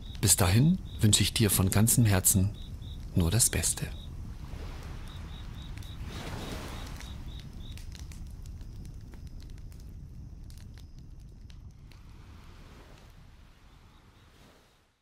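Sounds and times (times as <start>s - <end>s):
campfire crackling and popping: 0.0s - 14.5s.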